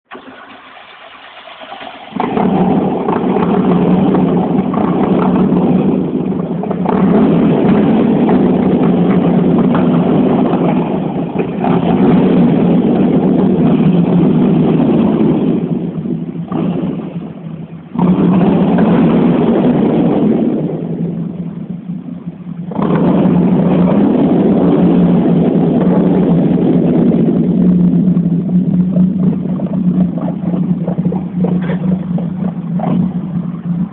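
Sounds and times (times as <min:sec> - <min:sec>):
car engine revving hard: 0:02.1 - 0:33.9.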